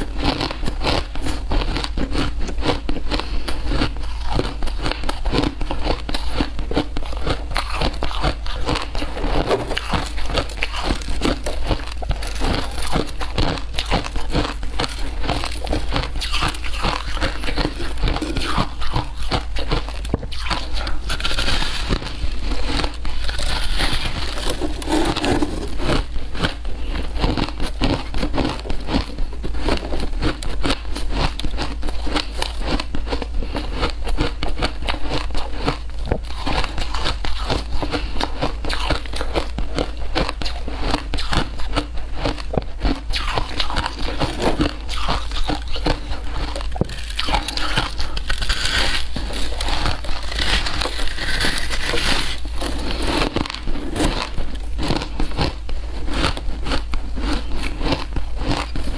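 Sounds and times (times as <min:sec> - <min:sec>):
shaved ice crunching when chewed: 0:00.0 - 0:58.9.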